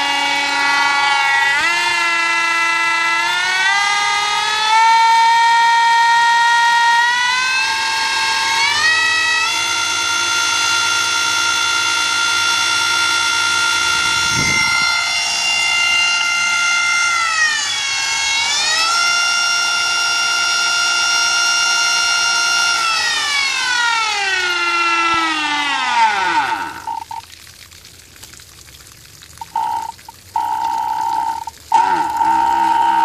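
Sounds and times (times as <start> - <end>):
electric motor whine: 0.0 - 27.2, 29.5 - 33.0.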